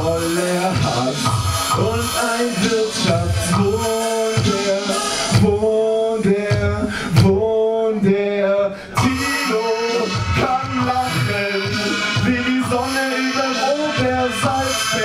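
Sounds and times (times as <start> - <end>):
hip-hop beat: 0.0 - 15.0
man singing into a microphone: 0.0 - 15.0.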